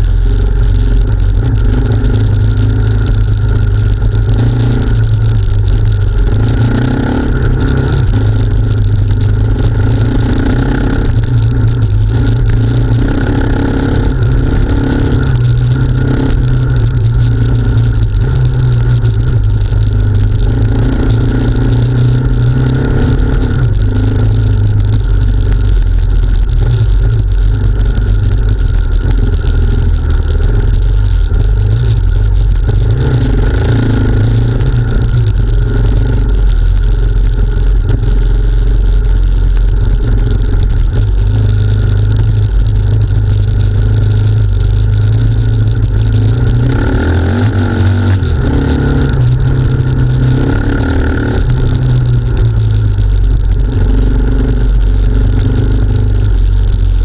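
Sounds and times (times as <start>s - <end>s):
off-road motorcycle engine: 0.0s - 57.0s.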